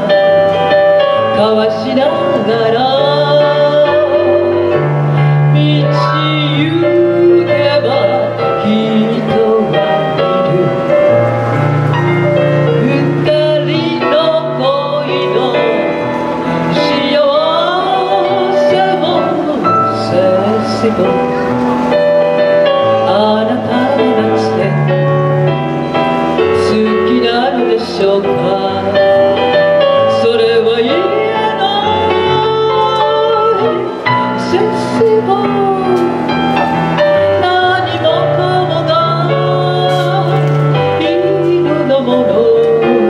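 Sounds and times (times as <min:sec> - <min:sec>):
instrumental accompaniment: 0:00.0 - 0:43.0
woman singing with vibrato: 0:00.0 - 0:43.0.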